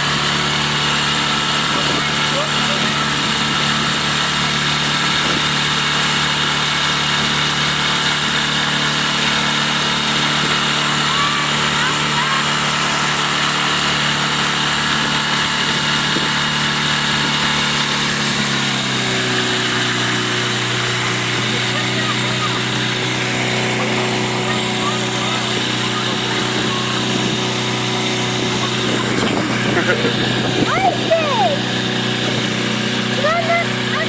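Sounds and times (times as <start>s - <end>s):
small boat engine running: 0.0s - 34.0s
water noise: 0.0s - 34.0s
wind: 0.0s - 34.0s.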